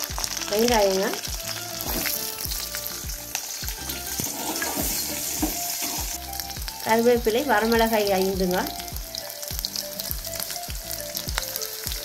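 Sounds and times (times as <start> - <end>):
shallots sizzling in hot oil: 0.0 - 12.0.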